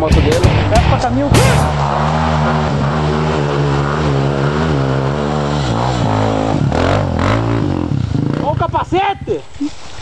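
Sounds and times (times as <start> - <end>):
dirt bike engine revving: 0.0 - 8.9.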